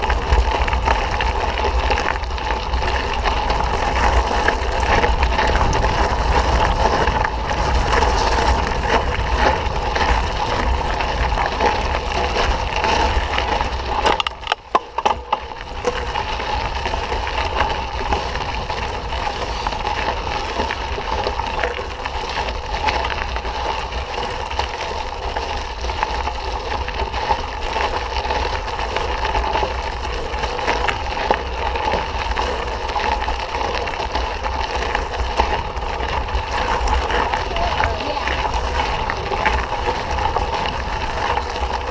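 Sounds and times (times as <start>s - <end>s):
bike tyres and rattle: 0.0s - 41.9s
wind rumble on microphone: 0.0s - 41.9s.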